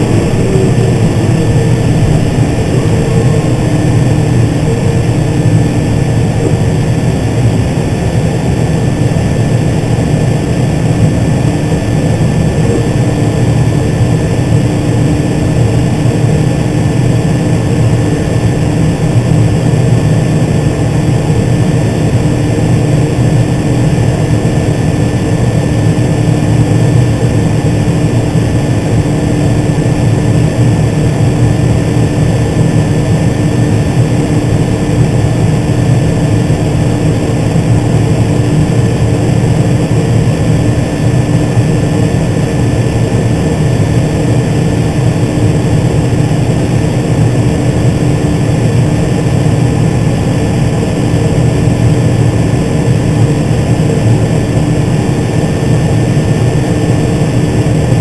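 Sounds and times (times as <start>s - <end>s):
faint high whine: 0.0s - 58.0s
tractor diesel engine drone: 0.0s - 58.0s.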